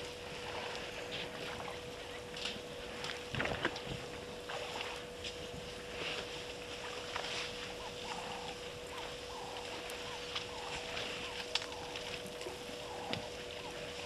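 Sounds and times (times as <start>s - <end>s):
faint steady hum: 0.0s - 14.0s
water splashing and sloshing: 0.0s - 14.0s.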